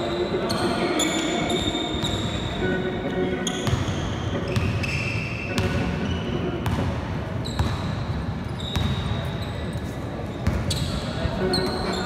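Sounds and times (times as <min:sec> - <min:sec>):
echoing hall ambience: 0:00.0 - 0:12.0.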